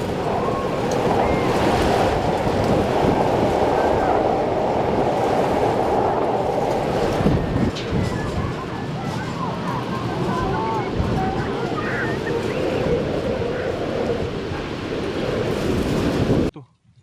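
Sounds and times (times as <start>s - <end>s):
surf rushing: 0.0s - 16.5s
wind: 0.0s - 17.0s.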